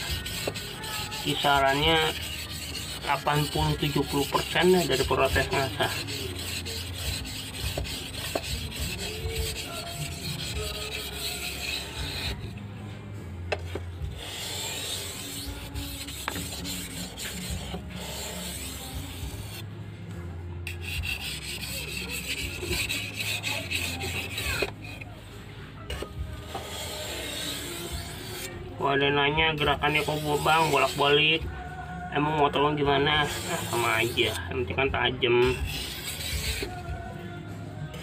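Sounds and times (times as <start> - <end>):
blade scraped over whetstone: 0.0 - 12.6, 13.6 - 19.6, 20.7 - 25.2, 25.9 - 28.6, 29.5 - 31.4, 33.0 - 34.5, 35.4 - 36.9.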